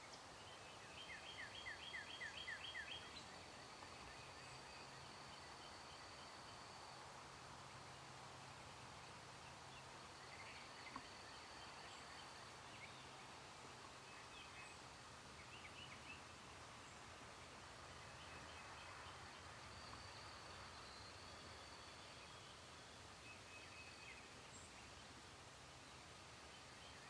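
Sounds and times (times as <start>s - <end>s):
faint distant bird chirps: 0.0s - 27.0s.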